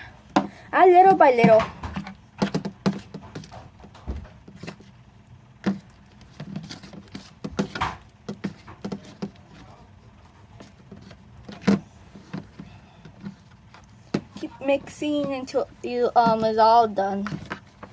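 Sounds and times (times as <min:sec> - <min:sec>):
tool stirring slime in bowl: 0:01.2 - 0:05.0, 0:05.6 - 0:17.9.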